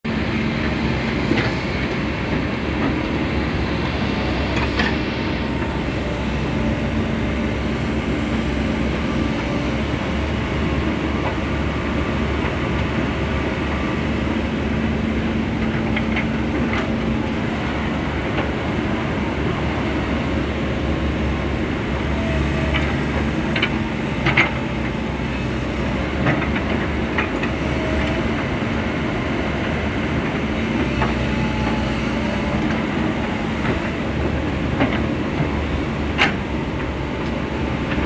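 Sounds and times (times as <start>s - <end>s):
excavator engine and hydraulics: 0.1s - 38.0s.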